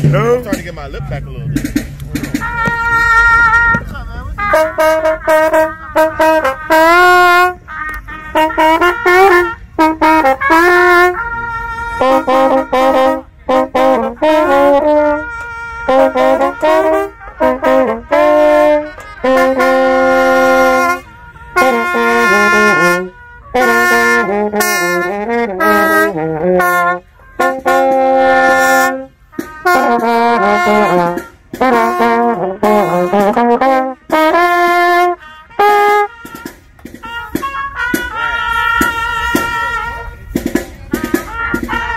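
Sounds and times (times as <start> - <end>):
trumpets playing fast phrases: 0.0 - 41.9.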